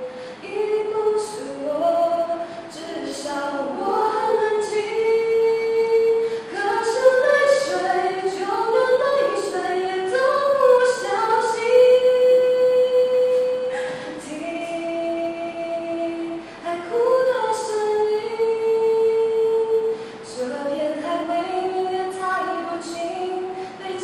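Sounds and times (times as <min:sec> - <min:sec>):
woman singing unaccompanied: 0:00.0 - 0:24.0.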